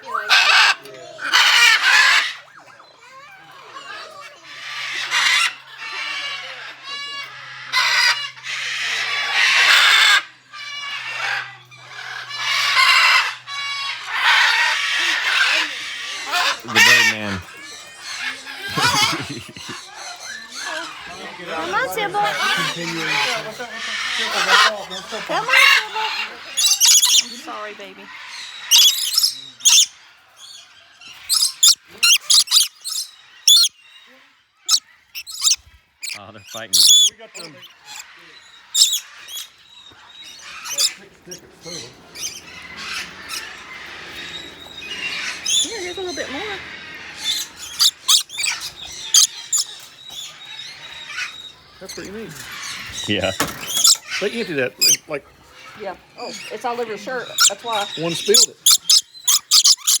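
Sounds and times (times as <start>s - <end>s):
parrots squawking and screeching: 0.0s - 60.0s.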